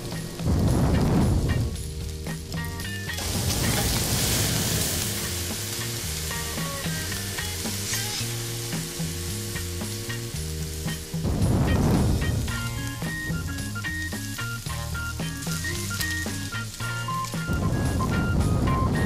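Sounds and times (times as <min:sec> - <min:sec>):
background music: 0:00.0 - 0:19.0
steak sizzling on a grill: 0:00.0 - 0:19.0.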